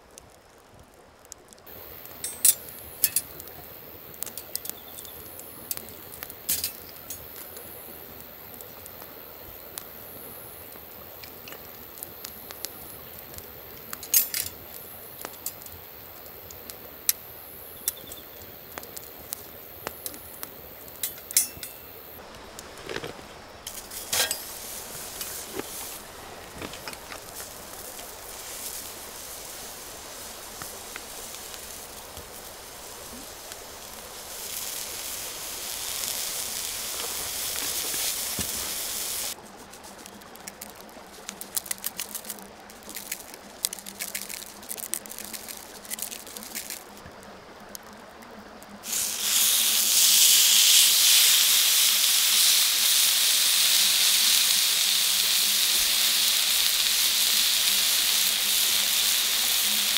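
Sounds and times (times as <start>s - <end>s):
food sizzling on a griddle: 1.7s - 22.2s, 23.7s - 47.2s, 48.6s - 59.9s.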